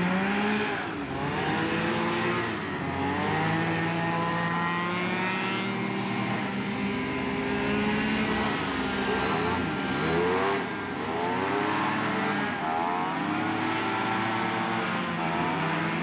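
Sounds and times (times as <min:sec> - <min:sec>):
racing hovercraft engines: 0:00.0 - 0:16.0.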